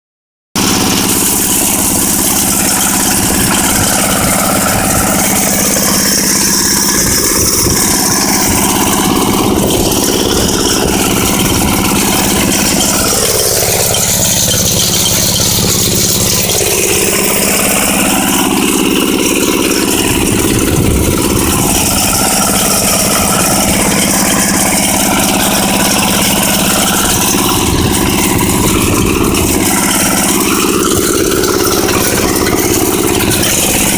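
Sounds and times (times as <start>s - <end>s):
machine rattle: 0.6s - 33.9s
tractor engine tilling: 0.6s - 33.9s.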